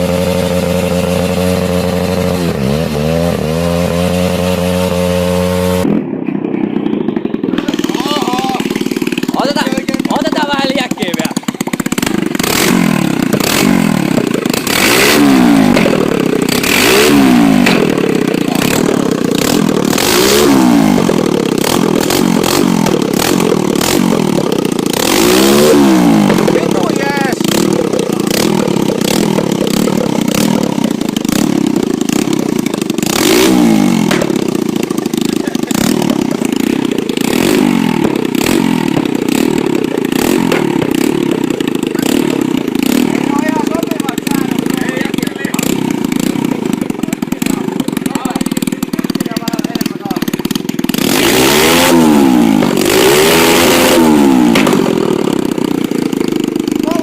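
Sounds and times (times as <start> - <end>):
small motorcycle engine revving: 0.0 - 57.0.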